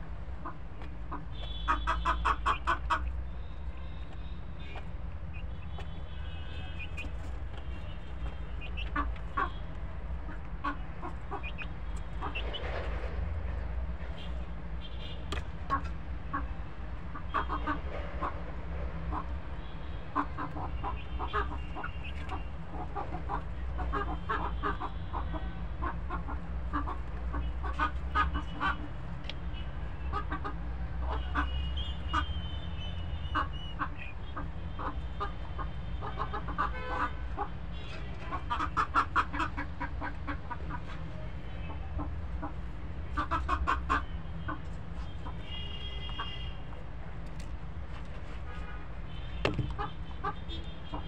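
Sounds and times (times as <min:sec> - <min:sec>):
young chickens clucking: 0:00.3 - 0:13.3, 0:15.2 - 0:19.4, 0:20.0 - 0:29.4, 0:30.0 - 0:32.3, 0:33.1 - 0:45.5, 0:49.4 - 0:51.0.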